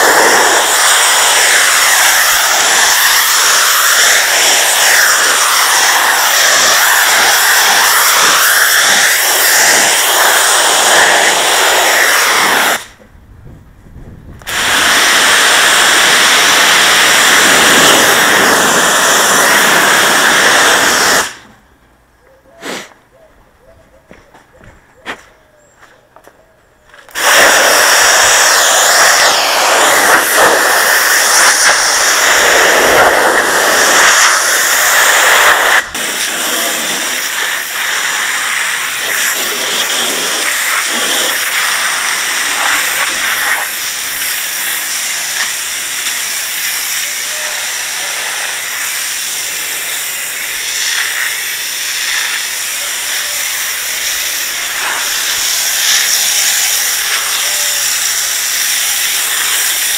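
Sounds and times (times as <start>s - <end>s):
pressure washer spraying: 0.0s - 13.0s, 14.4s - 21.5s, 27.1s - 59.9s.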